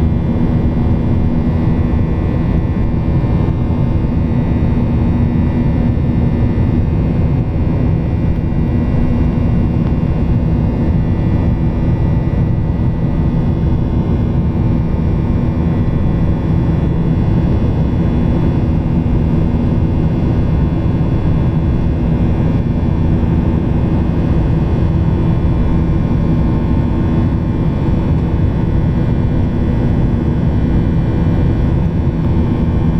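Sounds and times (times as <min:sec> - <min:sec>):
airliner cabin engine drone: 0:00.0 - 0:32.9
constant low hum: 0:00.0 - 0:32.9.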